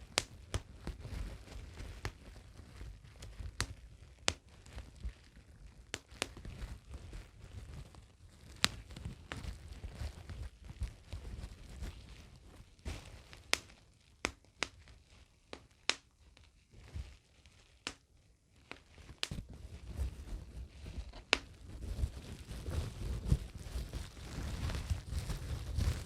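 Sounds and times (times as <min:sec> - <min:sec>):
bubble wrap crinkling: 0:00.0 - 0:26.0
bubble wrap popping: 0:00.0 - 0:26.0.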